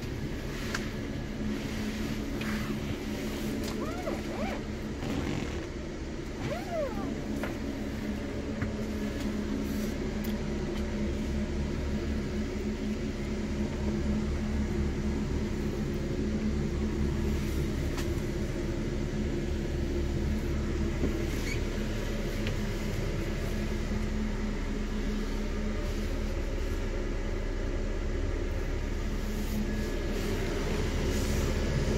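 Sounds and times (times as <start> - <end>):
diesel engine idling: 0.0 - 31.9.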